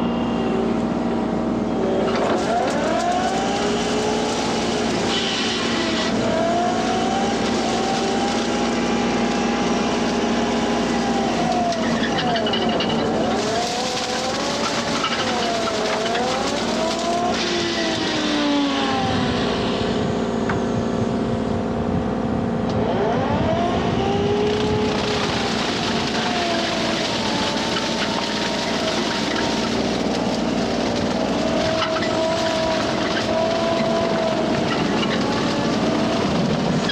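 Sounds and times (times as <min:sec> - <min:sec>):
excavator diesel engine running: 0:00.0 - 0:36.9
hydraulic whine: 0:00.0 - 0:36.9
brush cutter spinning through grass: 0:02.0 - 0:20.0, 0:23.0 - 0:36.9.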